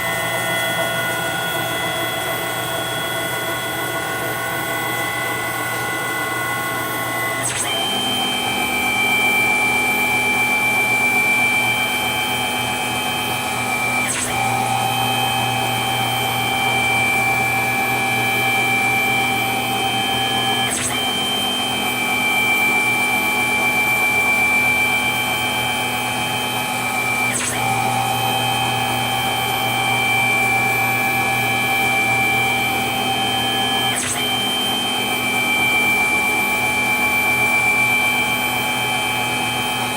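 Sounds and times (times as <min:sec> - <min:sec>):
lathe motors whining: 0:00.0 - 0:39.9.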